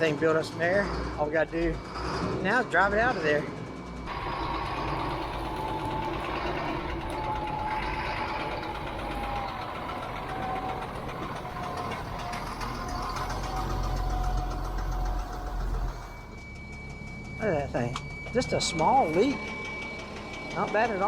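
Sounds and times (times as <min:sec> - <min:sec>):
diesel engine idling: 0:00.0 - 0:21.0
faint whine: 0:00.0 - 0:21.0.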